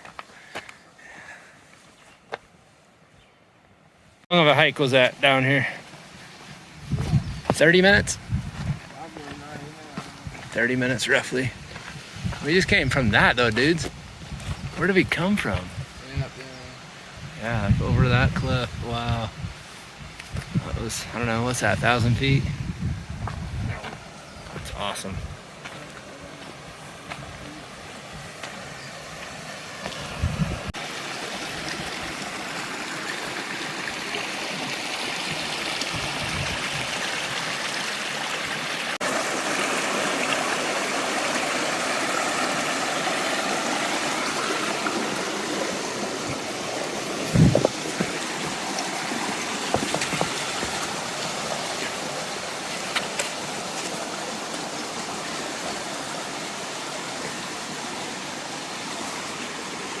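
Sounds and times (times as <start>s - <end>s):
creek water rushing: 4.3s - 60.0s.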